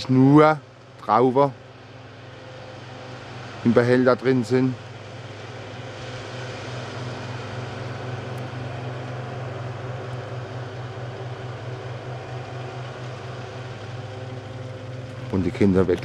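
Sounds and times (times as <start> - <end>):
fans blowing: 0.0 - 16.0
harvester engine drone: 0.0 - 16.0.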